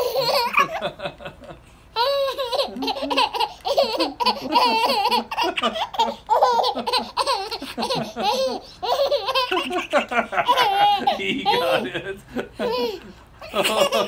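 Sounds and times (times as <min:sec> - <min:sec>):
baby laughing: 0:00.0 - 0:01.0, 0:02.0 - 0:14.0.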